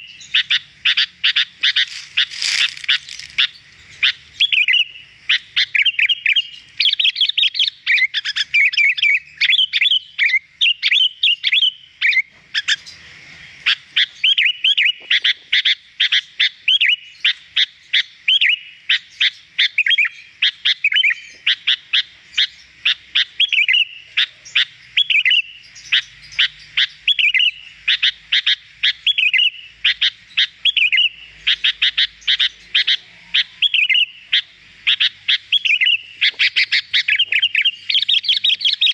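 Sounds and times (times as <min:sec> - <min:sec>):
bird singing chirps and whistles: 0:00.0 - 0:13.0, 0:13.6 - 0:38.9.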